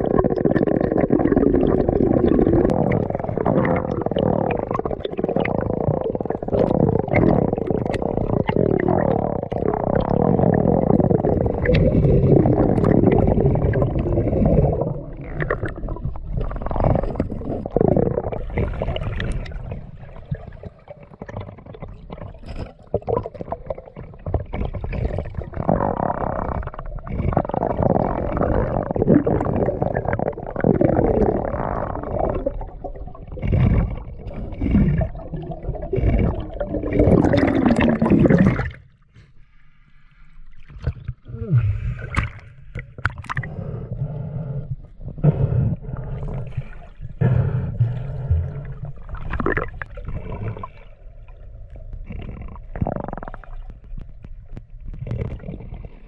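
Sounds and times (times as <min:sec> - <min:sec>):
underwater rumbling and gurgling: 0:00.0 - 0:56.0.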